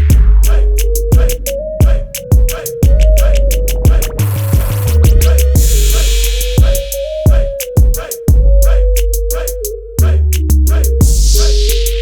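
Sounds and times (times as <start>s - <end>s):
hip hop music: 0.0s - 12.0s.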